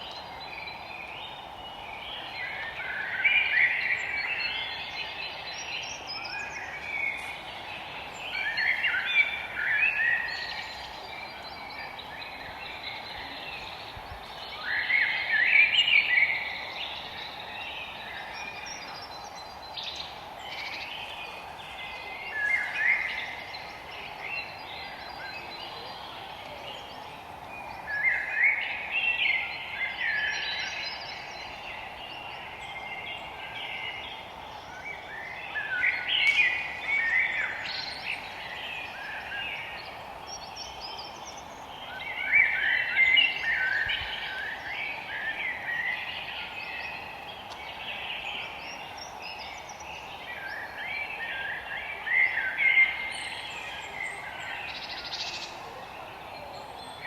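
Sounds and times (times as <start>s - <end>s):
birds chirping song: 0.0s - 57.0s.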